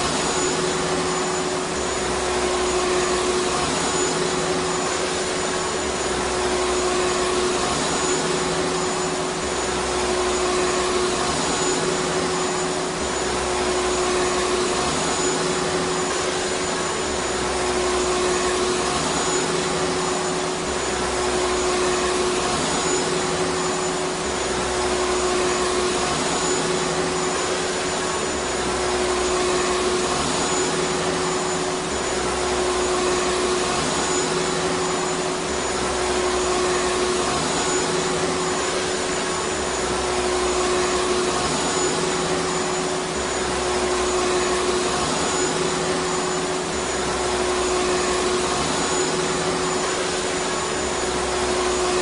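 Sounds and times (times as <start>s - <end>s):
vacuum cleaner motor running: 0.0s - 52.0s.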